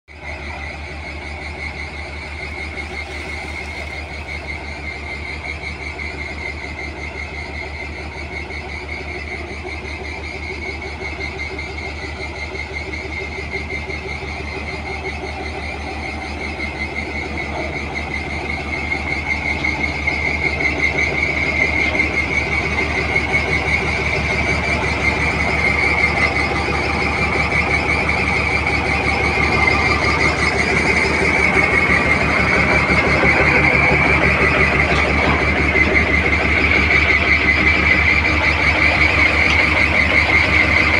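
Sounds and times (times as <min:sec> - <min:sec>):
diesel engine idling: 0:00.1 - 0:40.9
high continuous squeal: 0:00.1 - 0:40.9.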